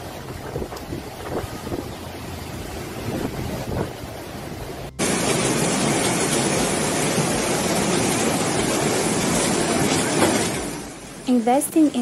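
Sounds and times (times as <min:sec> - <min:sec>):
wind buffeting microphone: 0:00.0 - 0:10.8
rushing roar of storm: 0:01.0 - 0:11.2.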